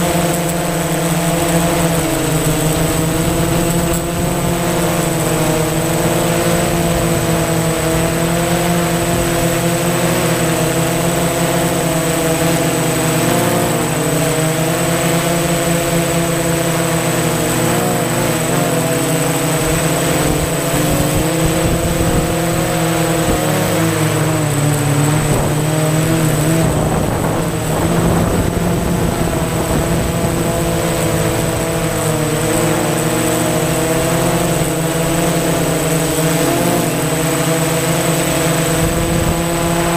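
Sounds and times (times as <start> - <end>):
drone motors and propellers buzzing: 0.0 - 39.9.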